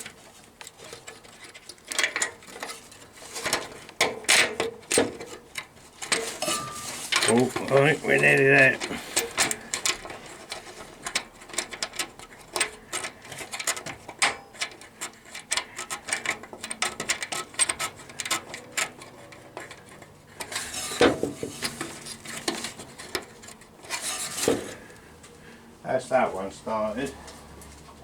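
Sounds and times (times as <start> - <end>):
scraping rustles: 0.0 - 25.9.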